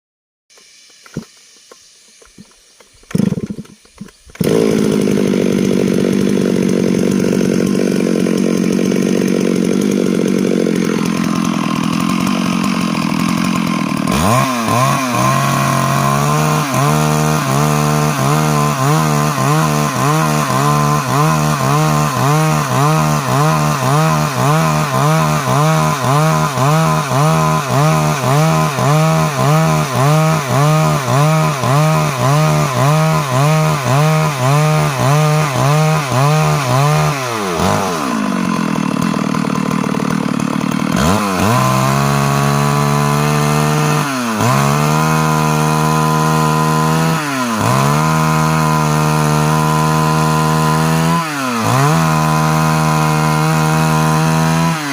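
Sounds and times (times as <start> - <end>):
chainsaw engine running: 0.5 - 54.9.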